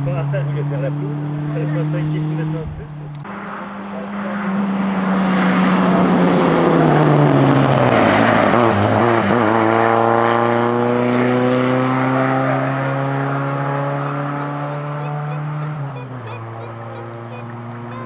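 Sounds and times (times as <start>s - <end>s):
rally car engine passing at speed: 0.0s - 18.0s.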